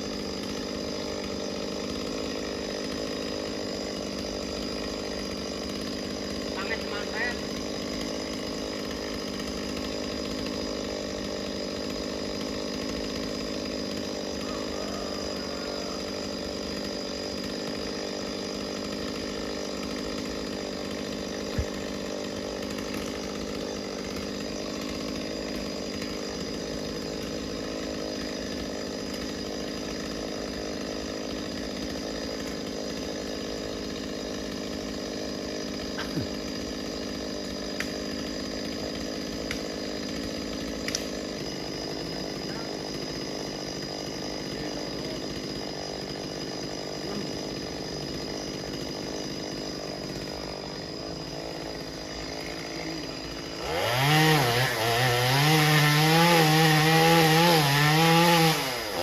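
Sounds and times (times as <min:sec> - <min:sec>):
chainsaw cutting tree: 0:00.0 - 0:59.0.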